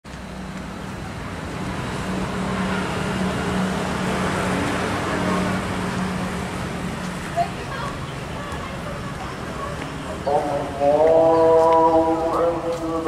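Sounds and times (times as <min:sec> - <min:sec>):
street traffic engine hum: 0:00.0 - 0:13.0.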